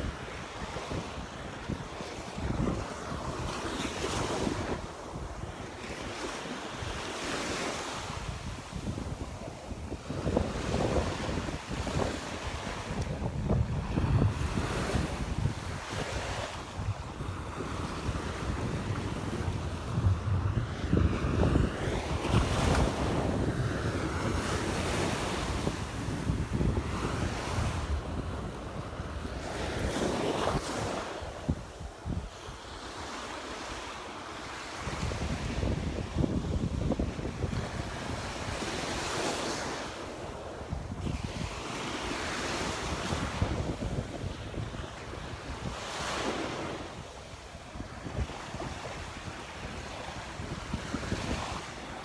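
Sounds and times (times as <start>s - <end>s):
wind buffeting microphone: 0.0s - 33.8s, 34.5s - 52.0s
waves breaking on beach: 0.0s - 52.0s.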